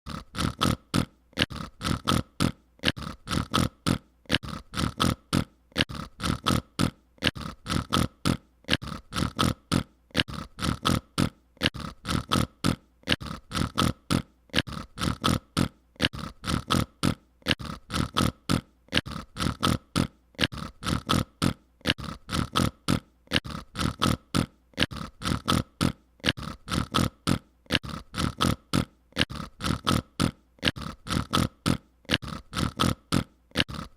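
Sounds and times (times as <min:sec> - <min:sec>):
rapid mouth noises: 0:00.0 - 0:33.9.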